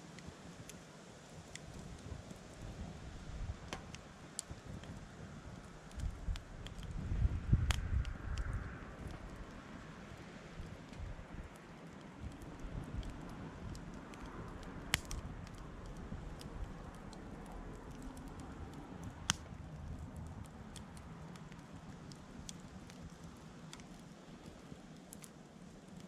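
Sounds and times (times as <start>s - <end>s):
campfire crackling: 0.0s - 26.0s
low steady background noise: 0.0s - 26.0s.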